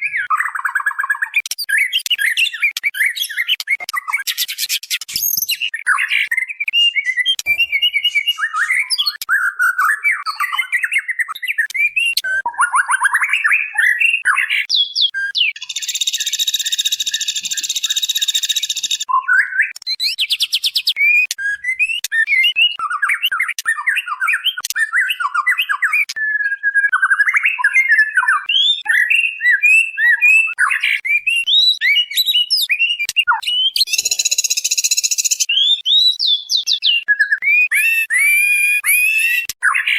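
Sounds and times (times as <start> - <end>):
bird chirps and warbles: 0.0 - 39.9.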